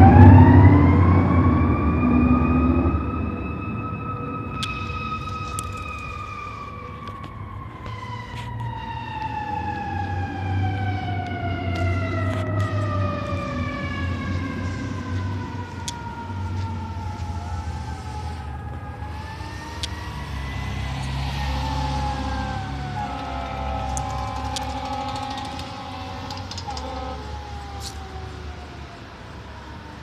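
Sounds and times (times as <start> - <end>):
fire truck engine rumble: 0.0 - 30.0
fire truck siren wailing: 0.0 - 30.0.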